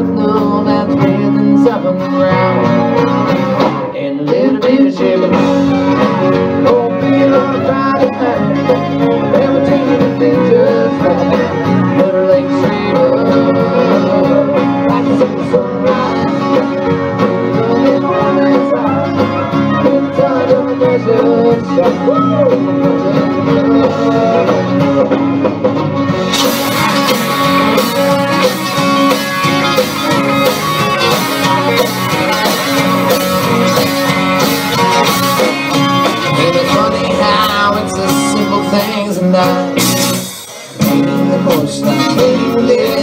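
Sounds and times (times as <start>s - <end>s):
bass: 0.0s - 43.0s
drums: 0.0s - 43.0s
guitars: 0.0s - 43.0s.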